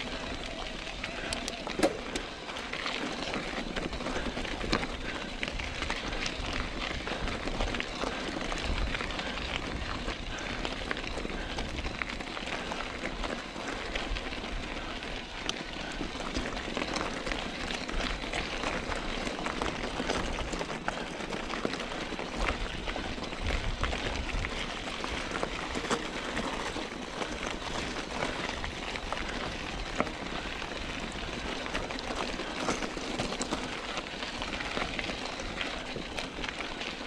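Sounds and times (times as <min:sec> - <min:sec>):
bike tyres rolling on ground: 0:00.0 - 0:37.0.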